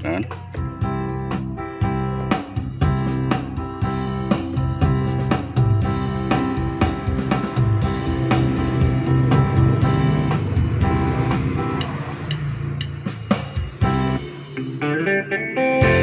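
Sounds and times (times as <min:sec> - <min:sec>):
keyboard playing music: 0:00.0 - 0:12.7, 0:13.6 - 0:16.0.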